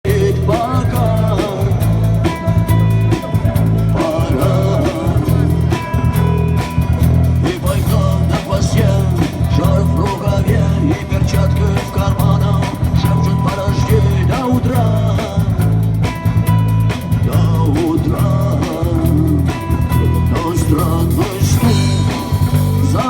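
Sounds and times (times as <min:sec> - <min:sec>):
guitar: 0:00.0 - 0:23.0
heavy pulsing bass beat: 0:00.0 - 0:23.0
live rock band playing: 0:00.0 - 0:23.0.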